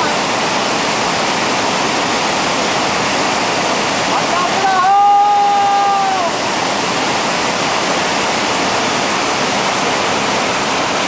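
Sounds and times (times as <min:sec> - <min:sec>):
whitewater rushing over rocks: 0:00.0 - 0:11.0.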